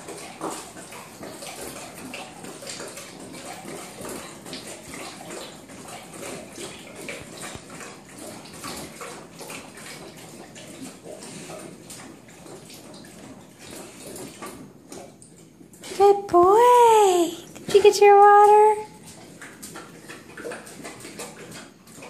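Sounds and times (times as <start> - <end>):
dog lapping water: 0.0 - 22.0
water splashing from dispenser: 0.0 - 22.0.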